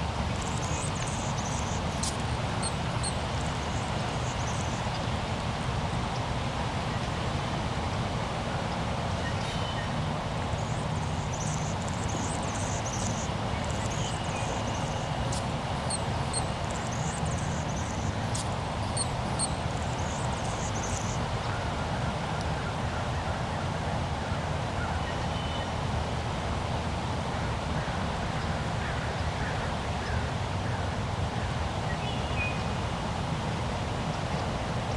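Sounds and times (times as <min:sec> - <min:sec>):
low background hiss: 0:00.0 - 0:34.9.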